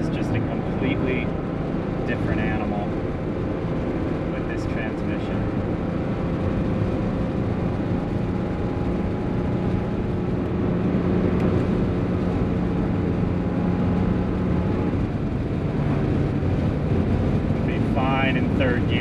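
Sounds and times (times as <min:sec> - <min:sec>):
car engine running: 0:00.0 - 0:19.0
road noise: 0:00.0 - 0:19.0.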